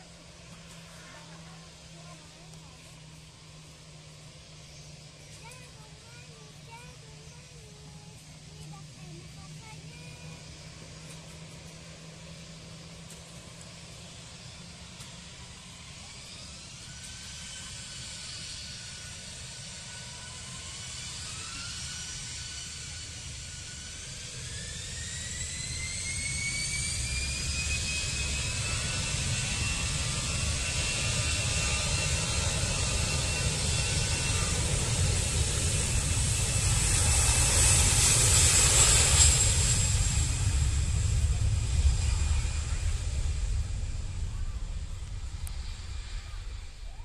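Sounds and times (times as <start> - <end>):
jet engines spooling up: 0.0 - 47.0.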